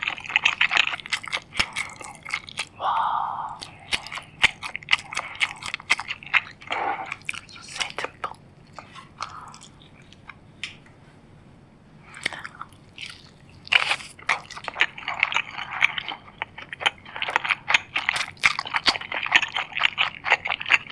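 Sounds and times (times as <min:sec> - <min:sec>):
crunchy food chewing: 0:00.0 - 0:02.8, 0:03.5 - 0:10.5, 0:12.1 - 0:20.9.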